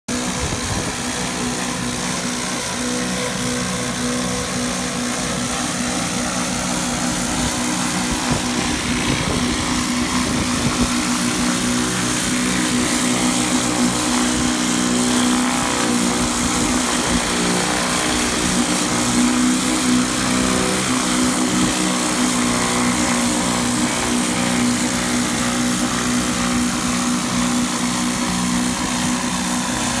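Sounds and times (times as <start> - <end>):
pressure washer engine running: 0.1 - 30.0.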